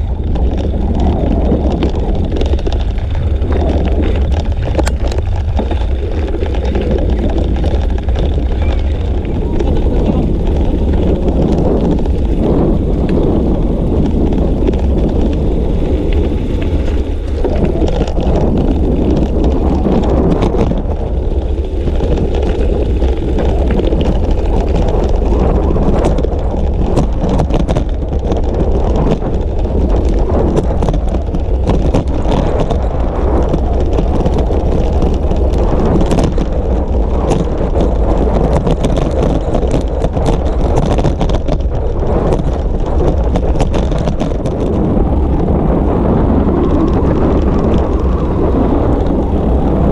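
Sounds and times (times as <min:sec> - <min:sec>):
bicycle clicks and rattles: 0:00.0 - 0:49.9
wind buffeting microphone: 0:00.0 - 0:49.9.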